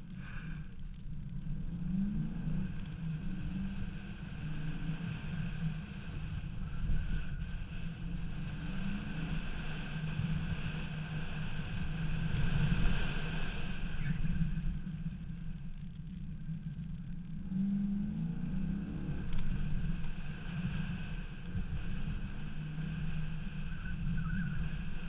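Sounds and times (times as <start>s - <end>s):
car engine running hard: 0.0s - 25.0s.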